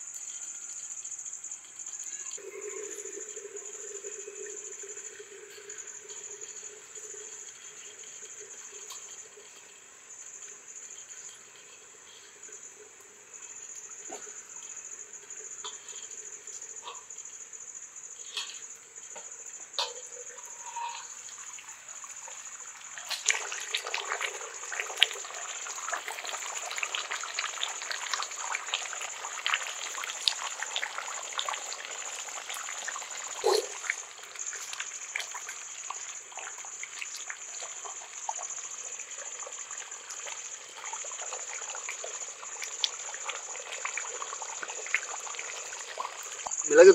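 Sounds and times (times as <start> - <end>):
fire crackles: 0.0 - 46.9
gravy bubbling: 2.4 - 17.2, 19.3 - 46.9.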